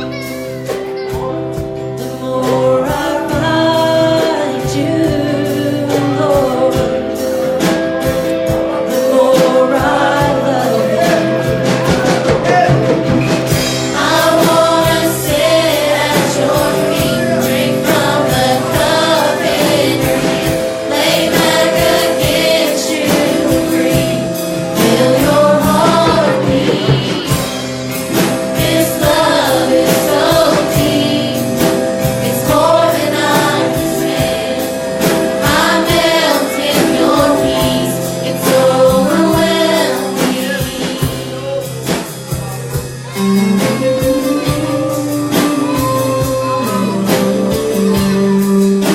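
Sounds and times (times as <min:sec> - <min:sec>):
band with steady beat: 0:00.0 - 0:48.9
voices singing worship song: 0:01.6 - 0:48.9.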